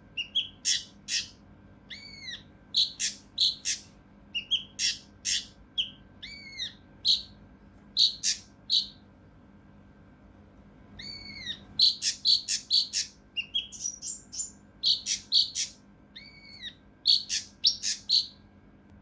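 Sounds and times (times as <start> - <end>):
bird calling in sharp notes: 0.1 - 7.4, 8.0 - 9.0, 11.0 - 18.4.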